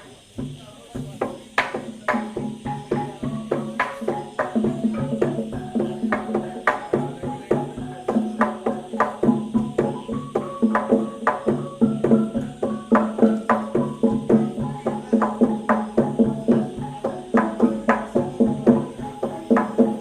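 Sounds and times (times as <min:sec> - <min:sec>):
percussion ensemble dance music: 0:00.0 - 0:20.0.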